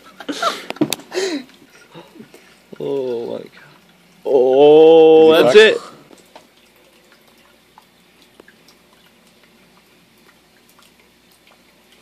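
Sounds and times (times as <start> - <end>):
low steady hum: 0.0 - 12.0
small water drips and ticks: 0.0 - 12.0.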